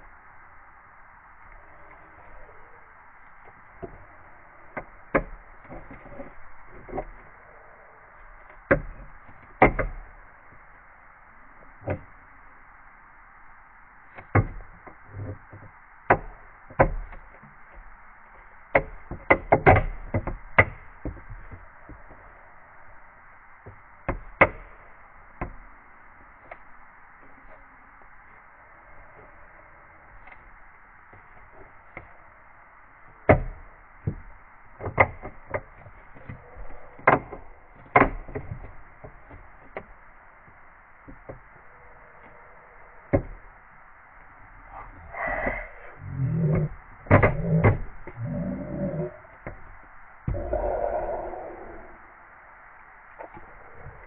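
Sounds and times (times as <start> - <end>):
low hiss: 0.0 - 54.0.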